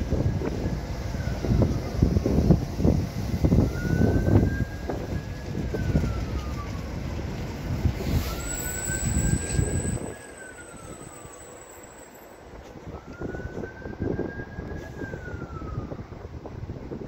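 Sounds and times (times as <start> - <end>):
distant siren wailing: 0.0 - 16.8
train rumble and wheel noise: 0.0 - 17.0.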